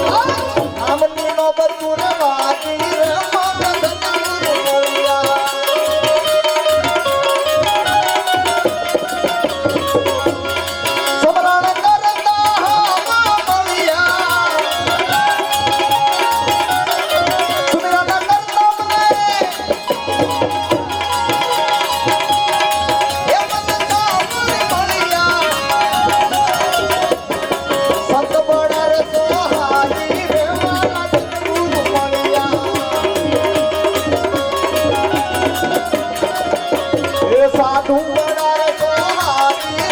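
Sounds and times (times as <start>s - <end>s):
instrumental melody line: 0.0s - 39.9s
tabla playing fast rhythm: 0.0s - 39.9s.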